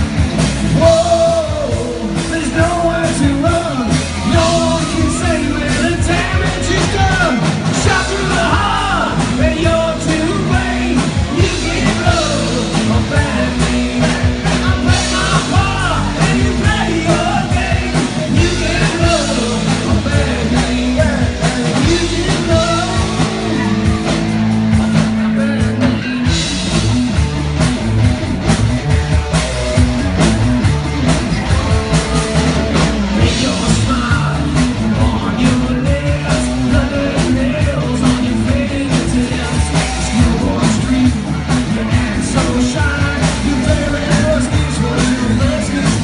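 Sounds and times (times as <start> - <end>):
live rock band playing: 0.0 - 46.0
man singing: 0.6 - 26.5, 31.9 - 46.0.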